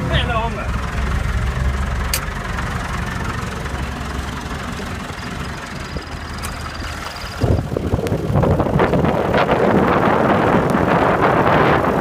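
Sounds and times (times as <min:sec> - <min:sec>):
tractor diesel engine idling: 0:00.0 - 0:11.2.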